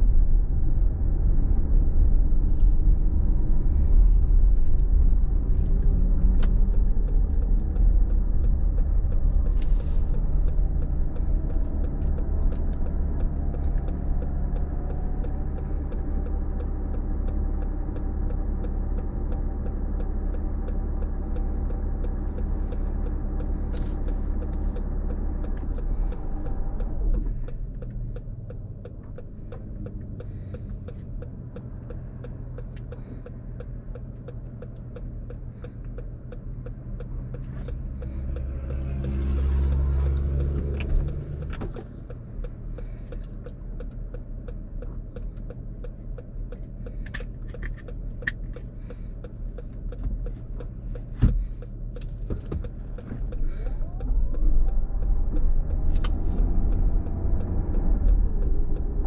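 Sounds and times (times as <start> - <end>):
car engine idling: 0.0 - 59.0
car road noise: 0.0 - 59.0
turn signal ticking: 0.0 - 59.0.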